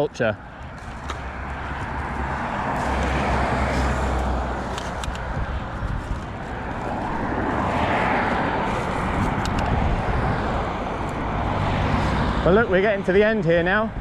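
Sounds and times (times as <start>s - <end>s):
road traffic noise: 0.0s - 14.0s
vehicle passing: 0.2s - 13.2s.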